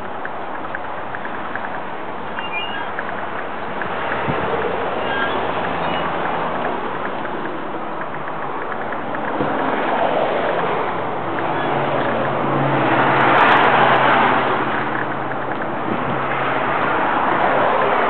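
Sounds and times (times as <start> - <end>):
passing motor vehicle: 0.0 - 18.0.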